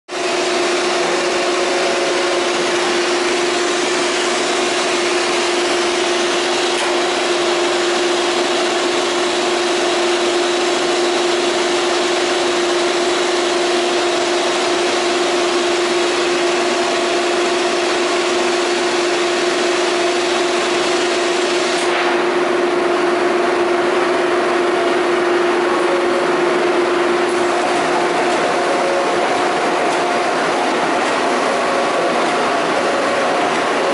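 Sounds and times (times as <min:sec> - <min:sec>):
machine hum: 0:00.1 - 0:33.9.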